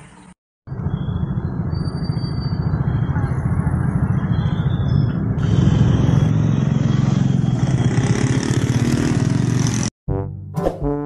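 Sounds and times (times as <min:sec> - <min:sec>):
vehicle engines rumbling: 0:00.0 - 0:09.9.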